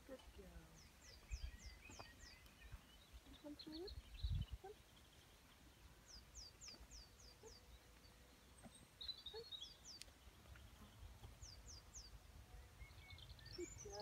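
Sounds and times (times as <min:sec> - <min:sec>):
quiet outdoor background: 0:00.0 - 0:14.0
songbird calls: 0:00.0 - 0:14.0.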